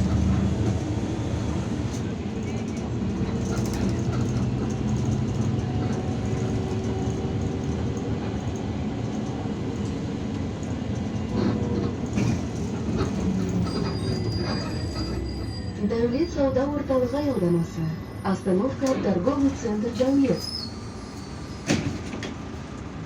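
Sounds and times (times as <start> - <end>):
bus engine hum: 0.0 - 23.0
road noise: 0.0 - 23.0.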